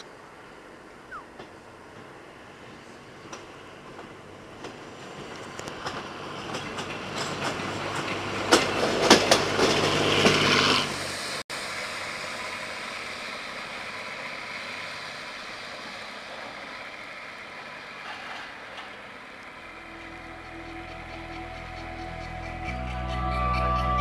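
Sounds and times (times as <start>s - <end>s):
diesel railcar passing: 0.0s - 24.0s
wheels clattering over rail joints: 1.3s - 23.7s.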